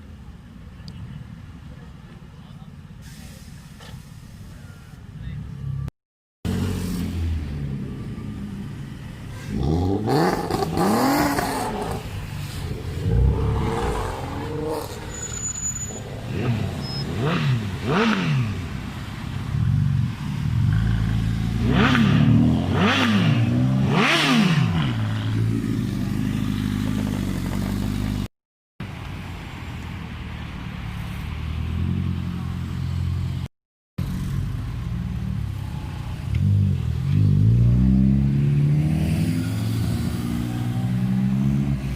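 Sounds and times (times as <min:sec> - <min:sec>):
low engine and road noise: 0:00.0 - 0:41.9
car engines revving: 0:06.5 - 0:28.3, 0:29.0 - 0:41.9.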